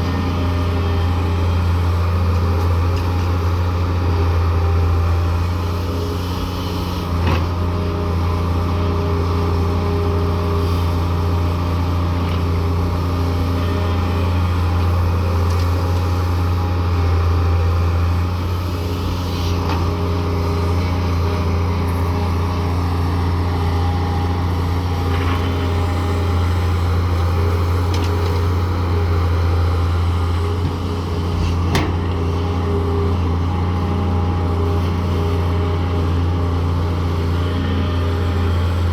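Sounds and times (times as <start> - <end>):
diesel engine droning under load: 0.0 - 38.9.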